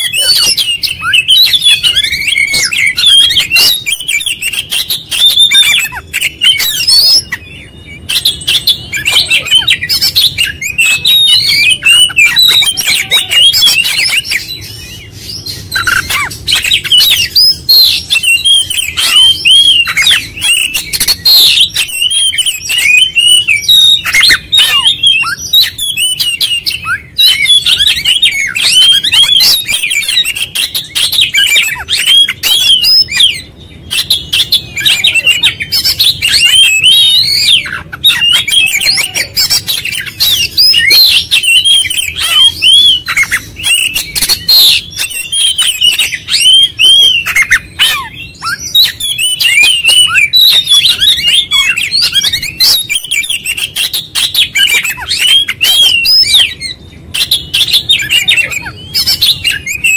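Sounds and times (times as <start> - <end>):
bird singing rapid whistles: 0.0 - 59.9.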